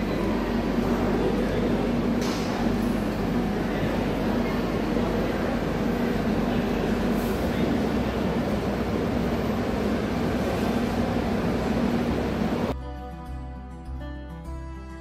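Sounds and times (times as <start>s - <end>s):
train idling hum and rumble: 0.0s - 12.8s.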